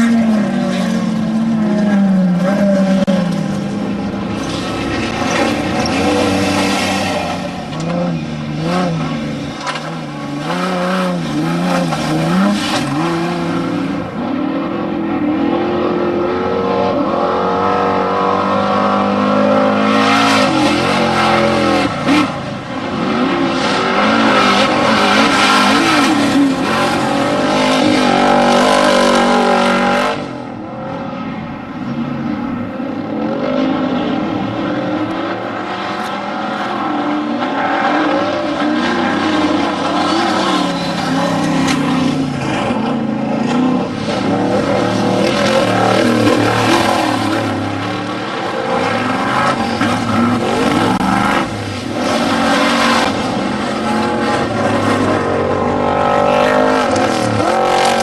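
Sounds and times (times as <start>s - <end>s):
race vehicle engines revving: 0.0s - 58.0s.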